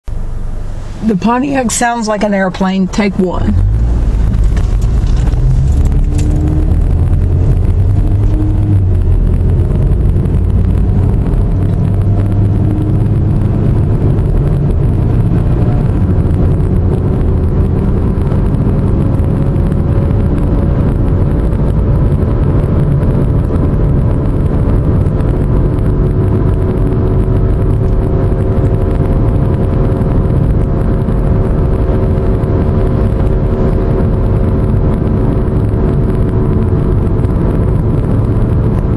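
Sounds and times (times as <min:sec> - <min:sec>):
road rumble: 0:00.0 - 0:38.9
droning hum: 0:00.1 - 0:38.9.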